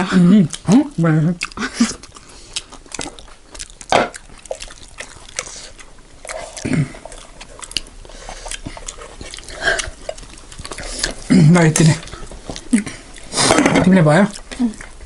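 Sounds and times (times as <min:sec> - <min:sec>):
chewing and lip smacks: 0:00.0 - 0:15.0.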